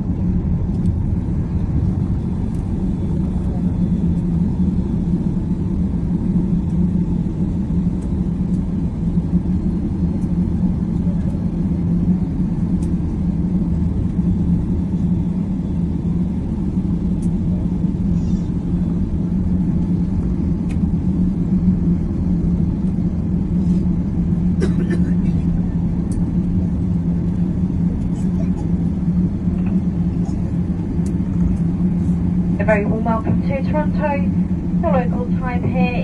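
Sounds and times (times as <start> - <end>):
airliner cabin rumble: 0.0 - 36.0
constant hum: 0.0 - 36.0.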